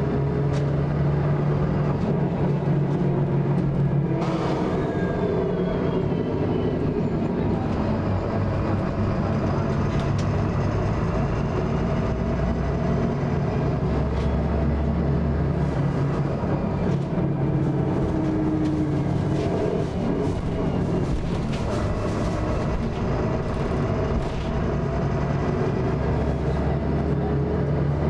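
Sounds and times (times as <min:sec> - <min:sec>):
bus engine and drivetrain noise: 0:00.0 - 0:28.0
grinding from rear of bus: 0:00.0 - 0:28.0.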